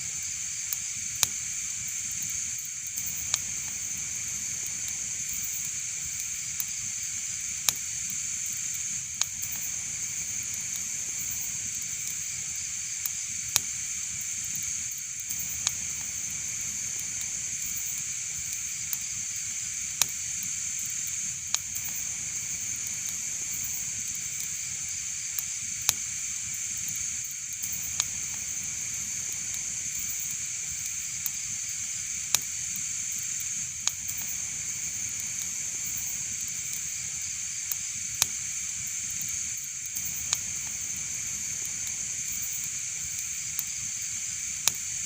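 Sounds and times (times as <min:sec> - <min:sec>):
fireplace fire hiss and rumble: 0:00.0 - 0:45.0
fire crackling pops: 0:00.1 - 0:45.0.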